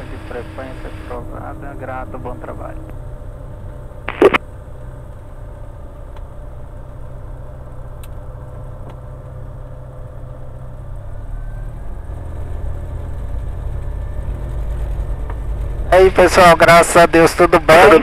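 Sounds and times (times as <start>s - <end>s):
aircraft engine drone: 0.0s - 18.0s.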